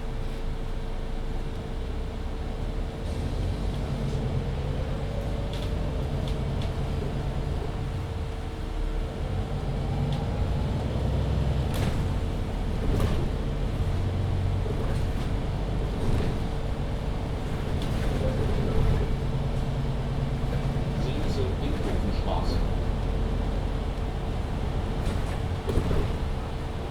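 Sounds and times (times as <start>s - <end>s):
bus drive drone with whine: 0.0s - 26.9s.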